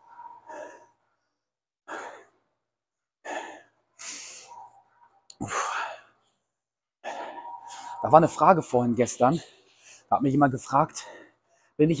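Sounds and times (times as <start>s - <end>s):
man breathing heavily: 0.0s - 8.0s, 9.3s - 10.1s, 10.8s - 11.9s.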